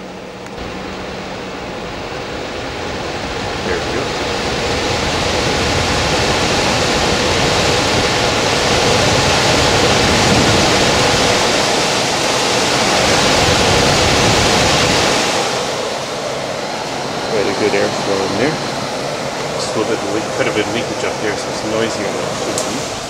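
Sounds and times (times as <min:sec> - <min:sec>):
blower rushing air: 0:00.0 - 0:23.0.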